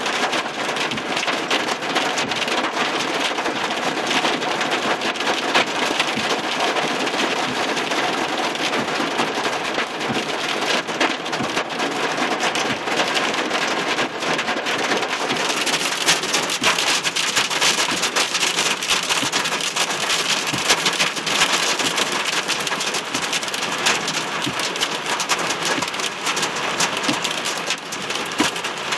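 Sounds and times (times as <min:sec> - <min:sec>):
hail pelting vehicle windshield: 0:00.0 - 0:28.9.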